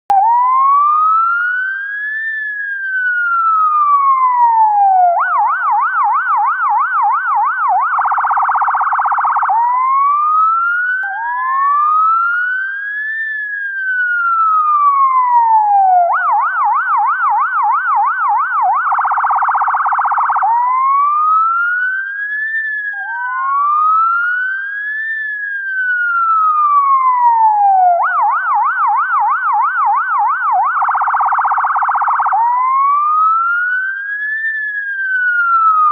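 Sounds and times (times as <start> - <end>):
ambulance siren: 0.1 - 35.9.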